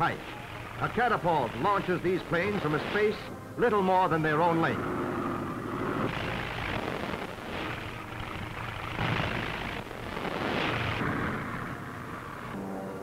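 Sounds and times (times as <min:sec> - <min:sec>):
radial aircraft engine roaring: 0:00.0 - 0:13.0.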